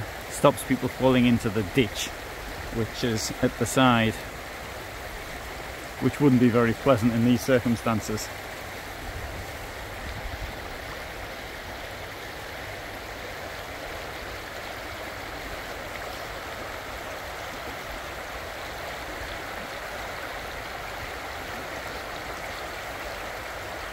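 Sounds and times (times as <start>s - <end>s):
floodwater rushing and churning: 0.0s - 23.9s.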